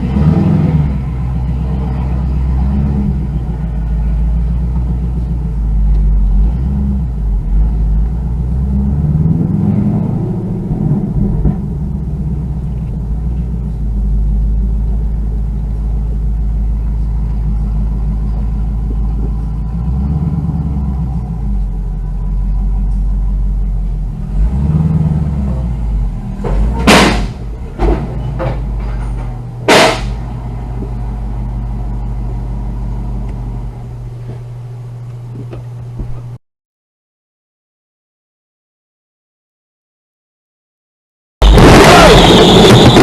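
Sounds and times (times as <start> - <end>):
car engine running: 0.0 - 36.4, 41.4 - 43.0.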